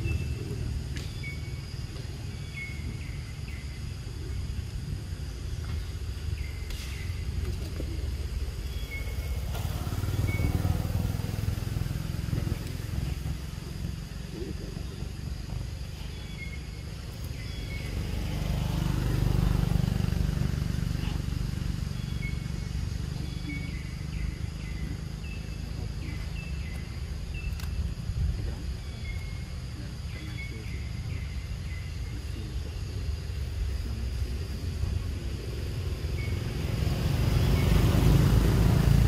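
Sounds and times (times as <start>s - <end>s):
road traffic rumble: 0.0s - 39.0s
vehicle passing: 4.7s - 27.3s, 29.5s - 39.0s.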